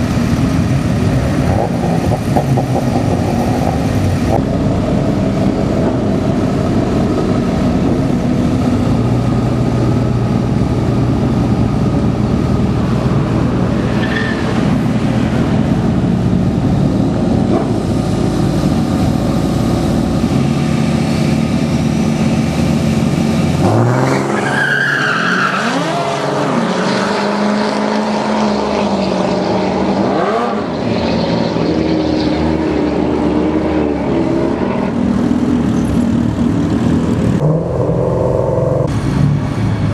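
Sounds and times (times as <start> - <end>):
diesel truck engines revving: 0.0 - 39.9.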